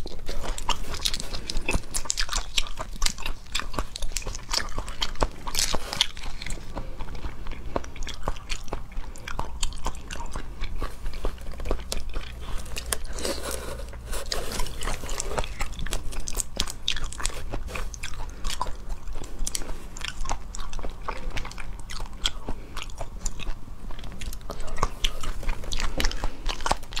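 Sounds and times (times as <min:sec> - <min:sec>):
low steady hum: 0:00.0 - 0:27.0
wet chewing with mouth clicks: 0:00.0 - 0:27.0.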